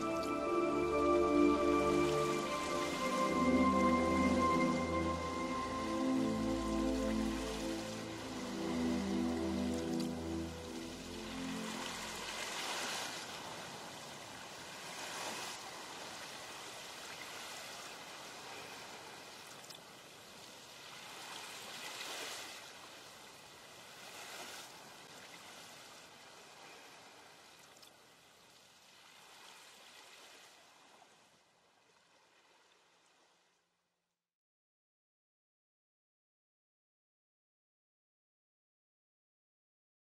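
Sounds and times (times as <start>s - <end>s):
rushing water: 0.0s - 33.3s.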